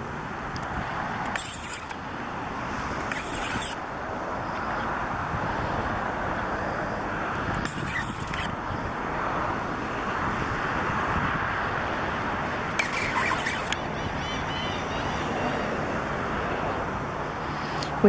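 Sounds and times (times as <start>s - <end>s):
distant road traffic: 0.0s - 18.0s
wind: 0.0s - 18.0s.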